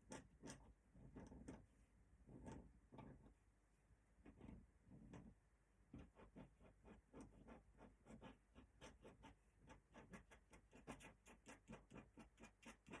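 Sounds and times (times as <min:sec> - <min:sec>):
pen scratching on paper: 0:00.0 - 0:01.7, 0:02.3 - 0:03.3, 0:04.2 - 0:13.0.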